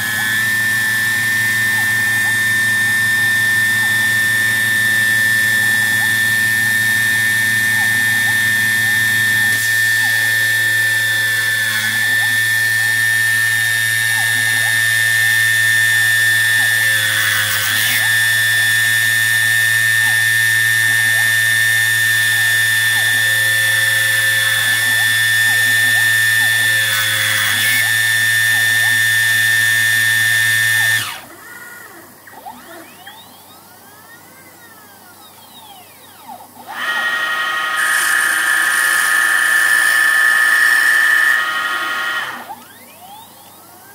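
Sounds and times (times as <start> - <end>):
cutter biting metal: 0.0 - 31.4, 36.6 - 43.0
lathe motor whine: 0.0 - 33.8, 34.9 - 43.9
stepper motor whines: 0.0 - 43.9.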